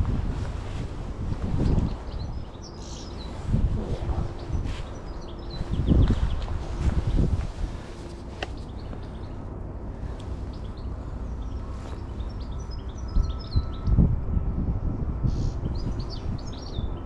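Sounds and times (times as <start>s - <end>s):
wind rumble on microphone: 0.0s - 17.0s
small songbirds twittering: 0.7s - 14.0s, 15.2s - 17.0s.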